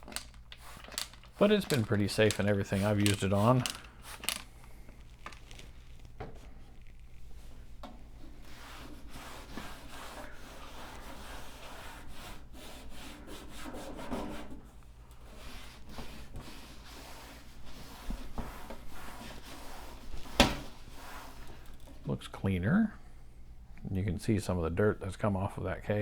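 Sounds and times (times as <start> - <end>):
cloth scrubbing computer case: 0.0 - 21.8.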